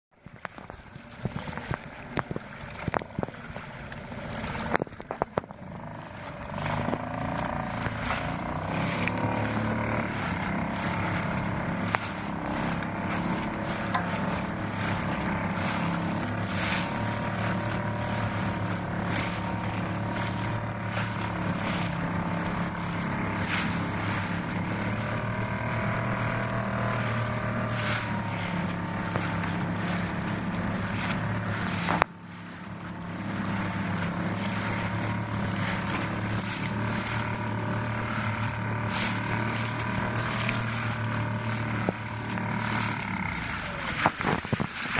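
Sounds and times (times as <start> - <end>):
outboard motor running: 0.1 - 44.9
water slapping against hull: 0.1 - 44.9.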